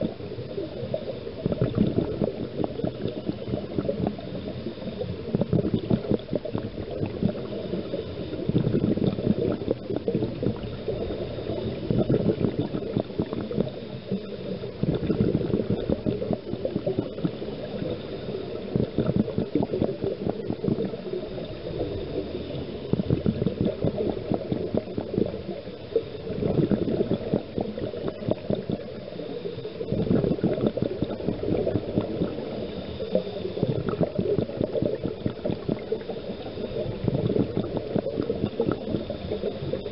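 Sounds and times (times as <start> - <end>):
underwater air bubbles: 0.0 - 39.9
underwater water noise: 0.0 - 39.9.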